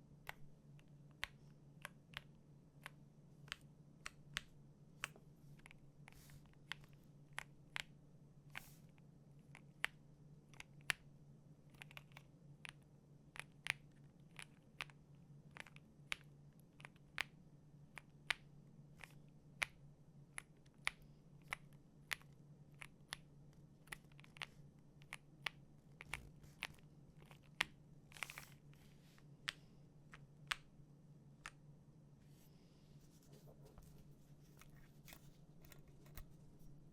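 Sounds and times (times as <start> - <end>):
faint low hum: 0.0 - 36.9.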